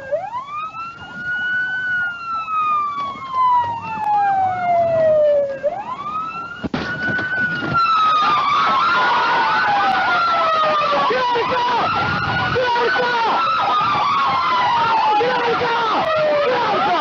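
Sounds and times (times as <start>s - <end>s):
police siren wailing: 0.0s - 17.0s
second siren: 0.0s - 17.0s.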